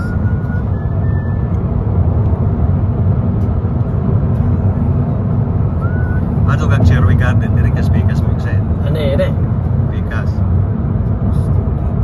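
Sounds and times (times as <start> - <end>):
road noise inside car: 0.0 - 12.0.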